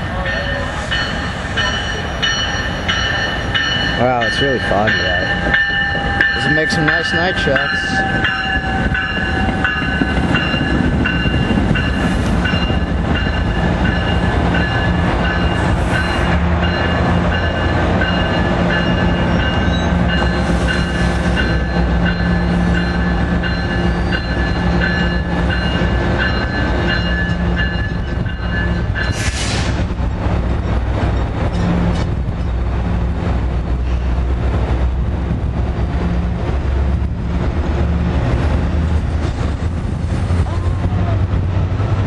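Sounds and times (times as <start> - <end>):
train coaches rolling past: 0.0 - 42.0.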